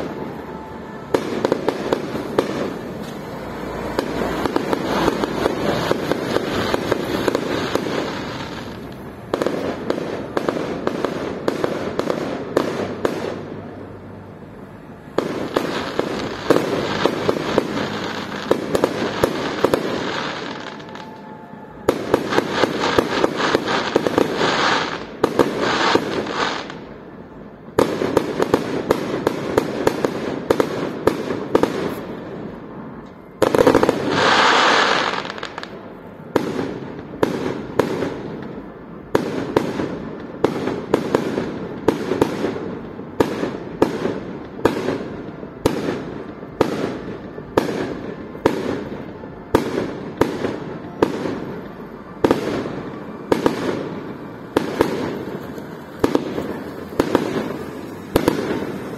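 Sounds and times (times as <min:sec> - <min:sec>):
fireworks bangs: 0:00.0 - 0:58.9
fireworks crackling: 0:00.0 - 0:58.9.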